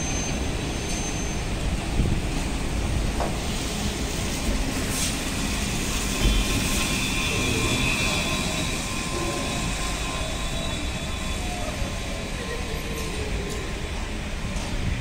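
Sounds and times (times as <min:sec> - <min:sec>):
trolleybus passing: 0:00.0 - 0:15.0.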